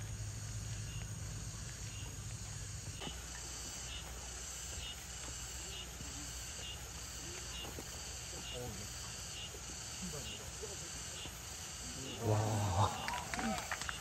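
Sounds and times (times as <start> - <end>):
insects buzzing and chirping: 0.0 - 14.0.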